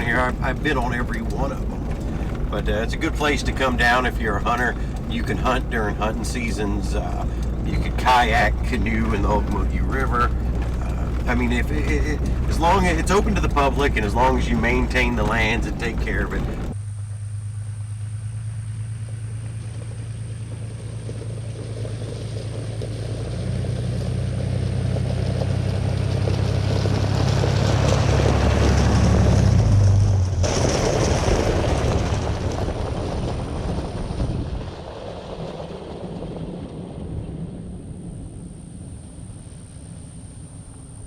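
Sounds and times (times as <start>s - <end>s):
tyre road noise on dirt: 0.0s - 41.0s
vehicle engine hum: 0.0s - 41.0s.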